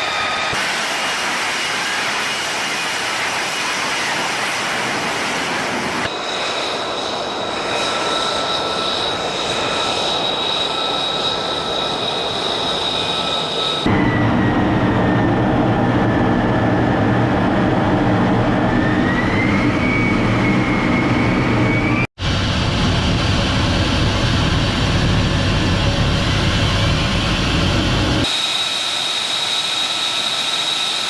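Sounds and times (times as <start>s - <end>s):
jet engine rumble and whine: 0.0s - 31.0s.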